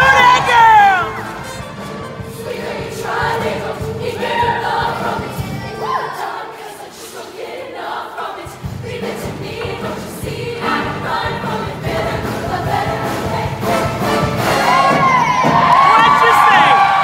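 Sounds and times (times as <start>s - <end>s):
women's choir singing: 1.4s - 15.7s.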